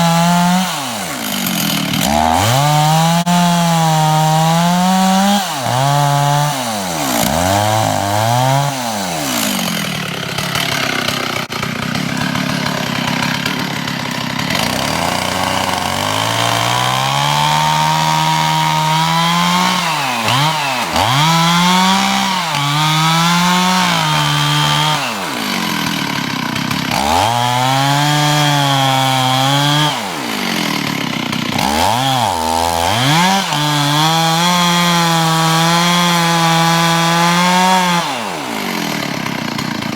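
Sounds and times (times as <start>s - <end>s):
chainsaw boring into wood: 0.0s - 39.9s.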